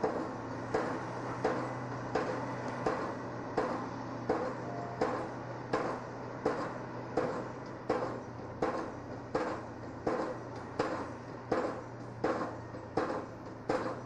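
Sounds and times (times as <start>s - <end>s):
sharp knocks: 0.0s - 14.0s.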